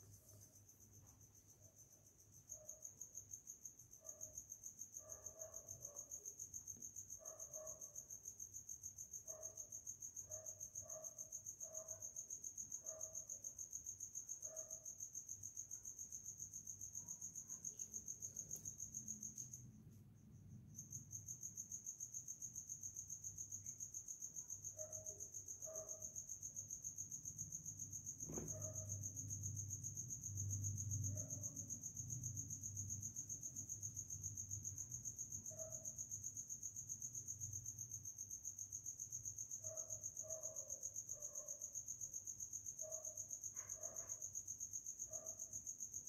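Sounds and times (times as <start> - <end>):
cricket chirping: 0.0 - 46.0.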